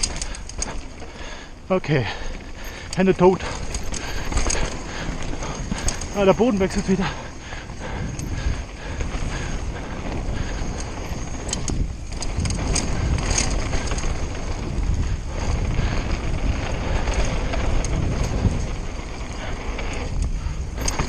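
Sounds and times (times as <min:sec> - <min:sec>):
bike chain and frame clicks: 0:00.0 - 0:21.0
bike tyre and suspension rumble: 0:00.0 - 0:21.0
wind on microphone: 0:03.4 - 0:21.0.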